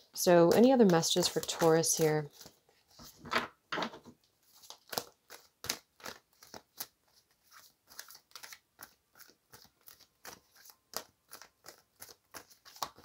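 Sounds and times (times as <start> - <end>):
cards being shuffled: 0.4 - 3.3, 4.4 - 13.0.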